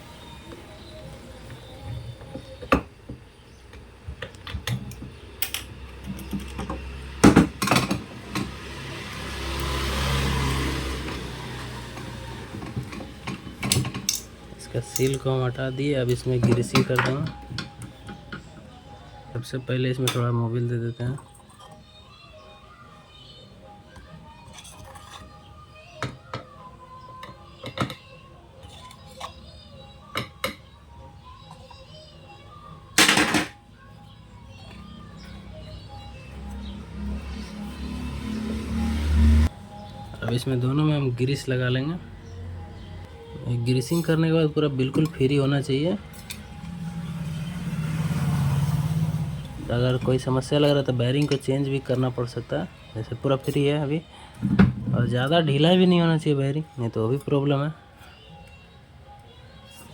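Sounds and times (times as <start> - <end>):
faint background music: 0.0 - 59.9.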